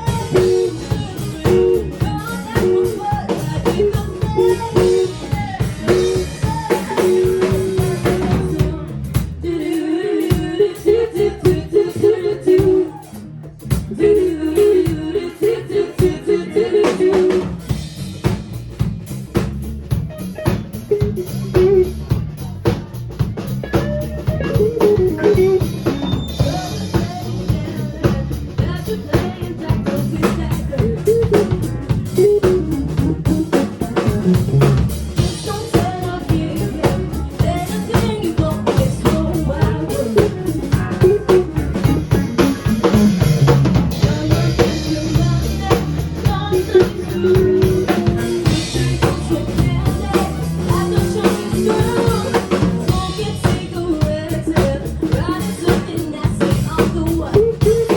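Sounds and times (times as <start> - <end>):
band playing rock music: 0.0 - 57.9
drum kit beat: 0.0 - 57.9.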